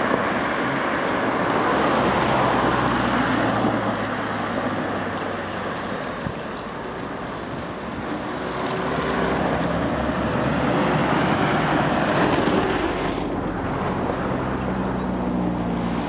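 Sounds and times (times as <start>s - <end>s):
passing vehicle: 0.0s - 16.0s.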